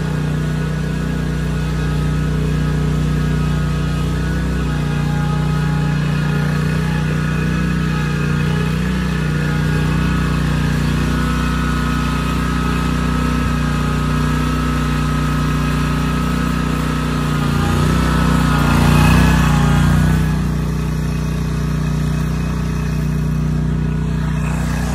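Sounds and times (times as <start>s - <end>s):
lawn mower engine running: 0.0s - 24.9s.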